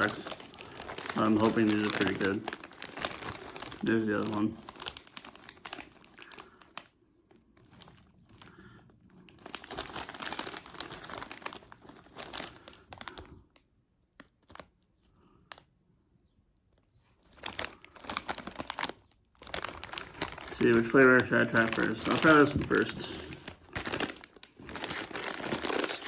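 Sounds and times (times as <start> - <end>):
chip bags crinkling: 0.0 - 15.7, 17.1 - 26.0.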